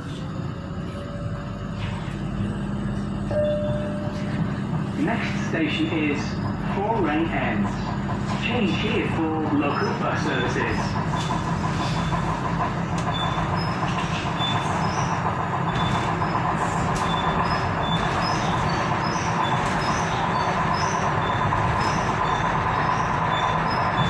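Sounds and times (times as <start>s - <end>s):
train running gear noise: 0.0s - 24.0s.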